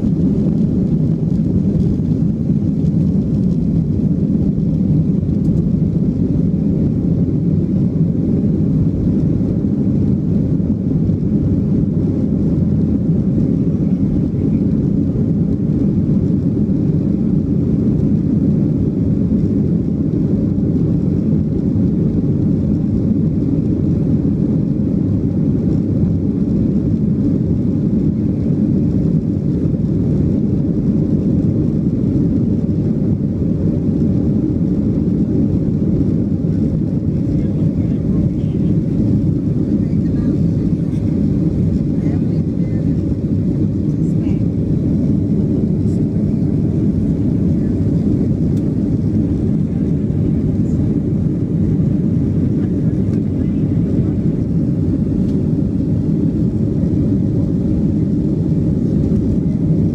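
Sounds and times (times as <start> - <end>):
jet engines heard from cabin: 0.0 - 59.9.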